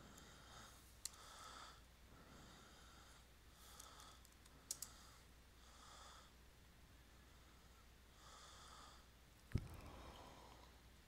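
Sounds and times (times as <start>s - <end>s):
soft breathing: 0.0s - 6.4s, 7.0s - 11.0s.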